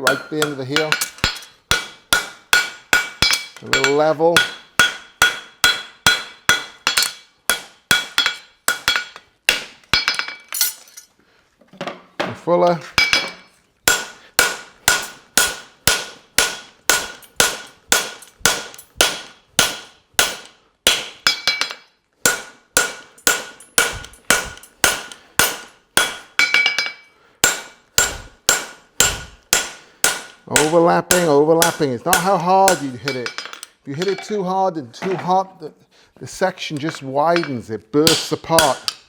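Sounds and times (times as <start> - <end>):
hammer striking hot metal on anvil: 0.0 - 10.4, 13.0 - 34.3.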